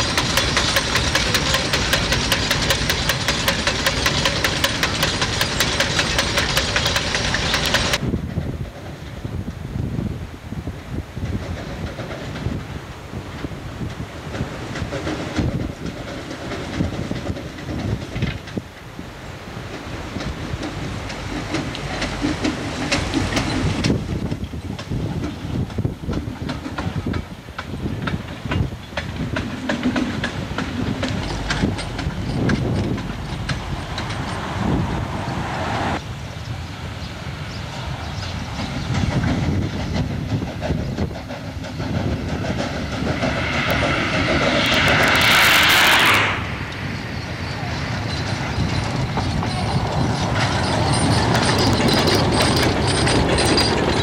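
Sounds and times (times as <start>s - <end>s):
train wheels knocking over rail joints: 0.0s - 9.0s, 11.2s - 35.3s, 38.3s - 46.2s, 47.7s - 54.0s.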